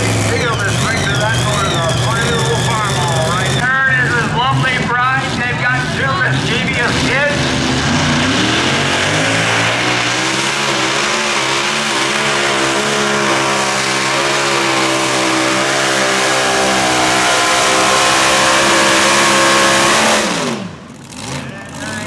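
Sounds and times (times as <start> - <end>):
tractor engine running flat out: 0.0 - 22.0.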